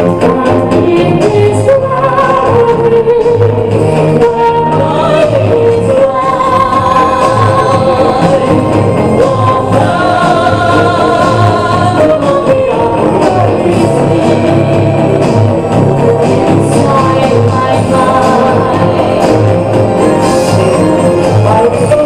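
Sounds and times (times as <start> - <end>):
music with singing over loudspeakers: 0.0 - 22.0.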